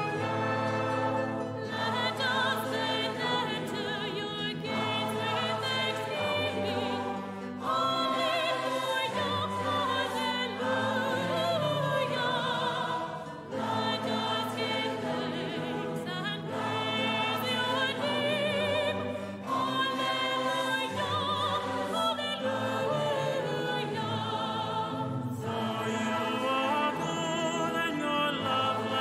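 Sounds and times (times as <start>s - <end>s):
choir singing a chant: 0.0s - 29.0s.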